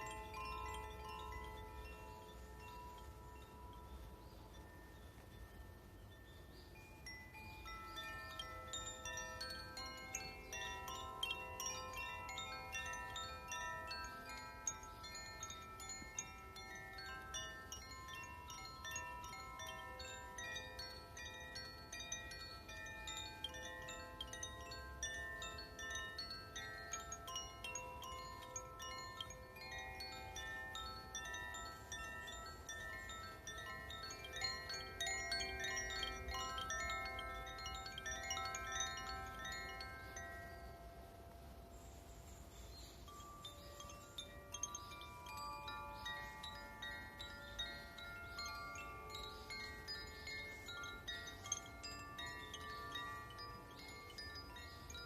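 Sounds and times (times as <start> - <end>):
metal chimes ringing: 0.0 - 55.0.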